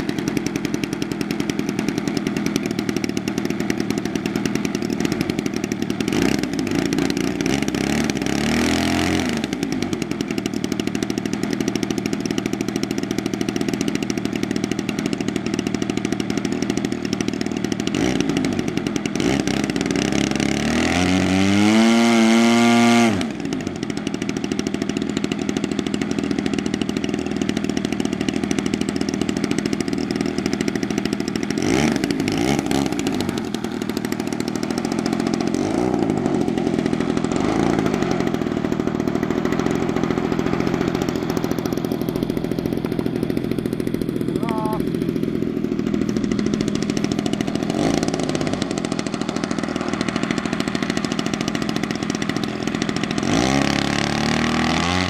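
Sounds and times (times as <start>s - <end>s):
model aeroplane engine revving: 0.0s - 55.0s.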